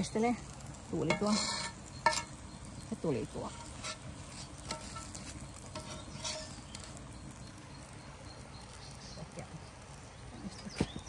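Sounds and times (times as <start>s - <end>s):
low steady hiss: 0.0s - 11.0s
pancakes frying crackling: 0.0s - 11.0s.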